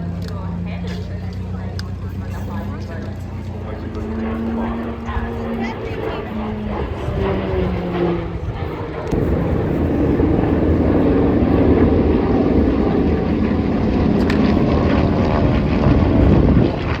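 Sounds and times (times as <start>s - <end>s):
propeller plane engine: 0.0s - 17.0s.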